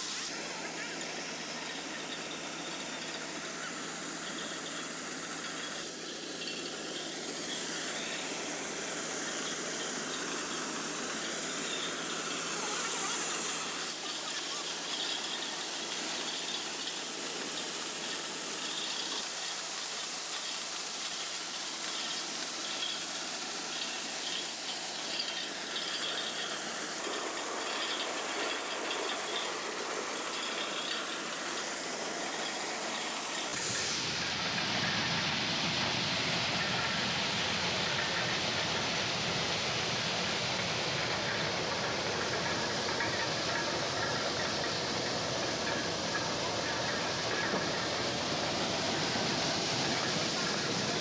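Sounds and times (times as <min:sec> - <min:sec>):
harvesting machine rushing hiss: 0:00.0 - 0:51.0.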